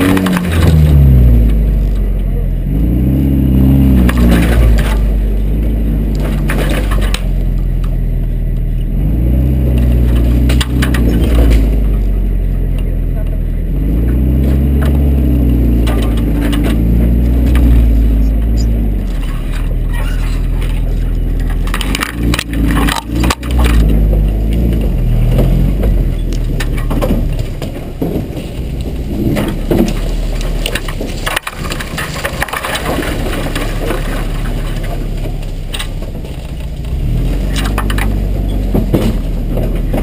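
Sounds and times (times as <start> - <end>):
branches cracking and scraping: 0.0 - 40.0
truck engine running: 0.0 - 40.0.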